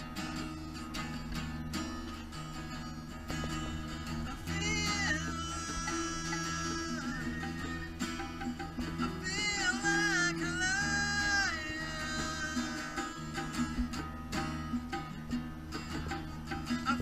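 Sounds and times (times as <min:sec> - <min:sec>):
acoustic guitar: 0:00.0 - 0:17.0
hand percussion: 0:00.0 - 0:17.0.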